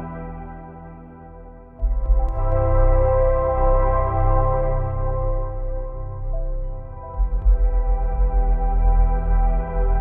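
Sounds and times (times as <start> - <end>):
slow ambient music: 0.0 - 10.0.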